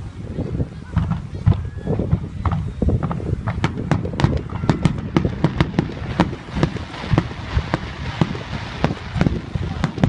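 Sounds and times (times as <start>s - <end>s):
fireworks bursting: 0.9s - 10.0s.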